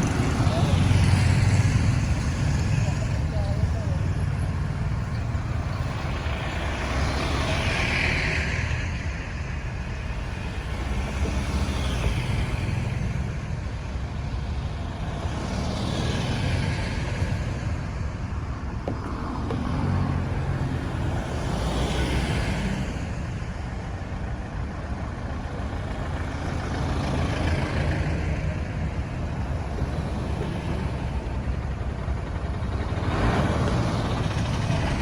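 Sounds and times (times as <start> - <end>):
low rumble of traffic: 0.0 - 35.0
vehicles swishing past: 0.0 - 35.0.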